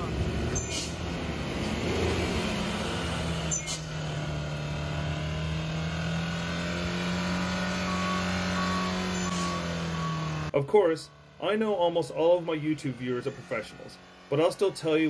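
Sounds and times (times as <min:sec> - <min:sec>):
diesel engine screaming: 0:00.0 - 0:15.0.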